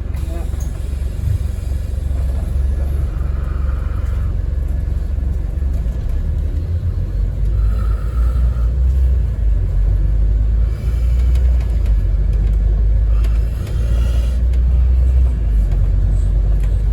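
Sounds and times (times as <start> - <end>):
bus engine rumble: 0.0 - 16.9.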